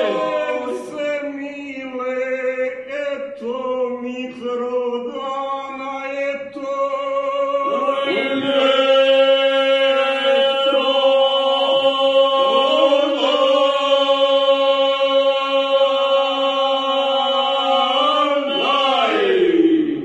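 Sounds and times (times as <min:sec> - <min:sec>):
male vocal group singing a cappella: 0:00.0 - 0:20.0.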